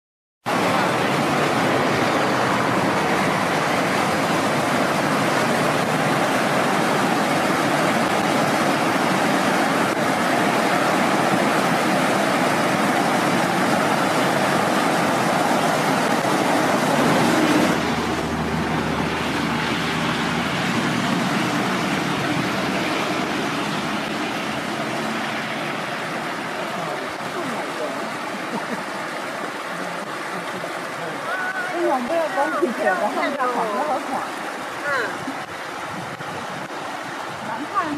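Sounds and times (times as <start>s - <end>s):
mountain stream rushing: 0.5s - 37.9s.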